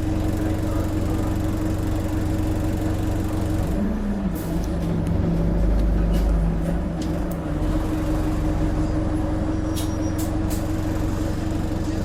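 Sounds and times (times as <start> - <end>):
bus engine rumbling under load: 0.0 - 12.0.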